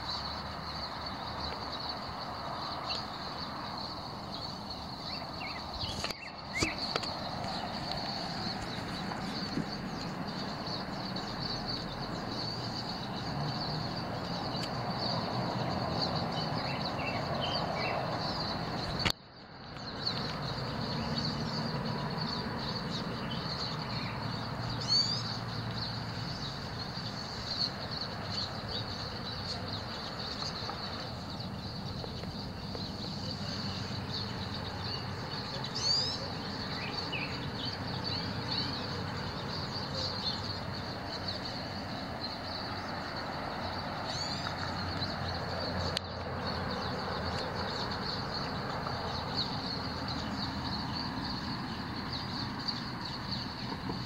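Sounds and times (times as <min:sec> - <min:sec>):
sweeping bird call: 0:00.0 - 0:19.0, 0:19.9 - 0:53.7
finches twittering and chirping: 0:00.0 - 0:19.1, 0:19.7 - 0:54.0
low traffic hum: 0:00.0 - 0:54.0.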